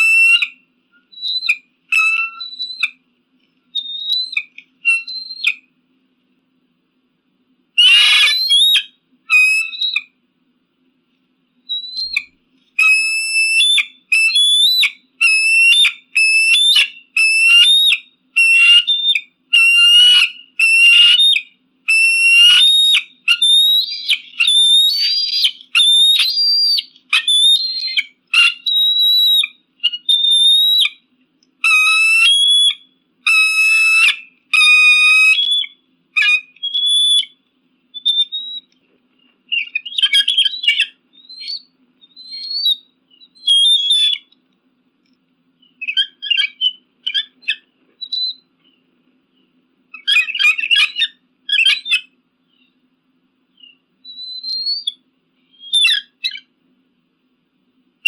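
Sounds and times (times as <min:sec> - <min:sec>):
eagle calling: 0:00.0 - 0:03.0, 0:03.8 - 0:05.7, 0:07.8 - 0:10.2, 0:11.7 - 0:37.4, 0:38.0 - 0:38.8, 0:39.5 - 0:44.4, 0:45.6 - 0:48.5, 0:49.9 - 0:52.7, 0:53.6 - 0:56.5.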